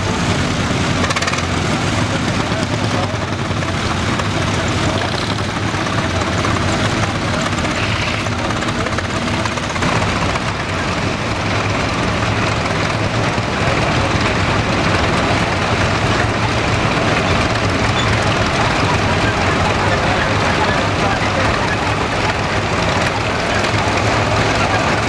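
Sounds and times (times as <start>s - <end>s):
crawler tractor engines running: 0.0s - 25.0s.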